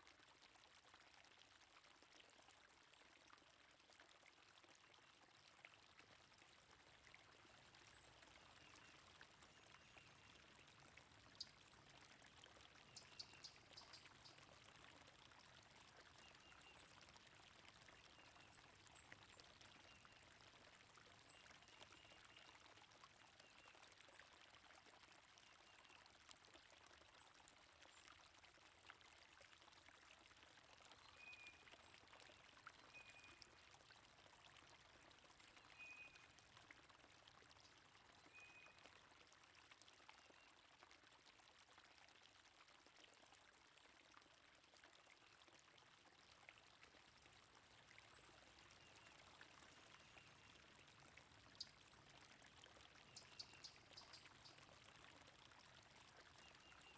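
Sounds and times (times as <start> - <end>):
flowing stream water: 0.0 - 56.9.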